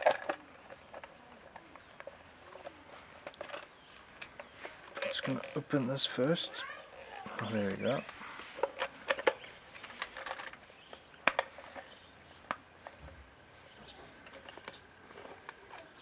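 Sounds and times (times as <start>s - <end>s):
plastic parts clicking and knocking: 0.0s - 5.6s, 7.3s - 16.0s.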